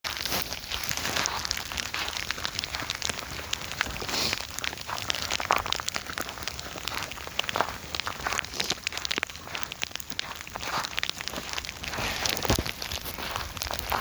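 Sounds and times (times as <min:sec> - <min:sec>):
freezing rain ticking on ice: 0:00.1 - 0:14.0.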